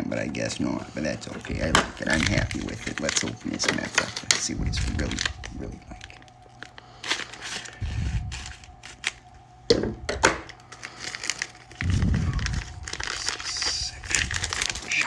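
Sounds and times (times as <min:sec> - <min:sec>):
plastic wrapping crinkling and tearing: 0:01.0 - 0:09.4, 0:10.4 - 0:15.0.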